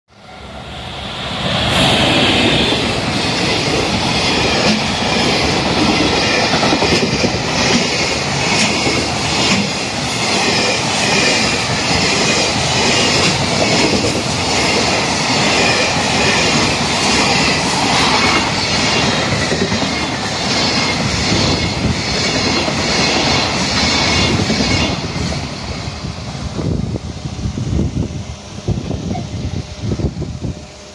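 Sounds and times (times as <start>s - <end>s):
freight train rumbling past: 0.1s - 30.9s.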